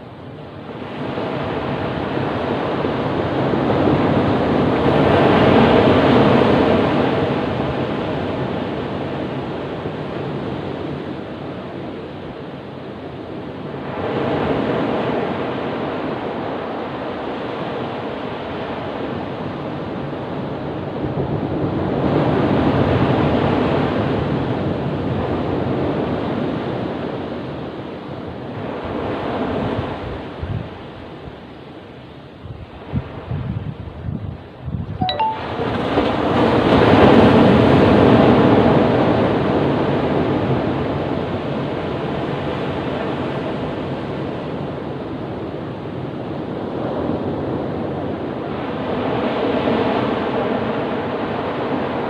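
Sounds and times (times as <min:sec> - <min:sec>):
waves breaking on a beach: 0:00.0 - 0:52.0.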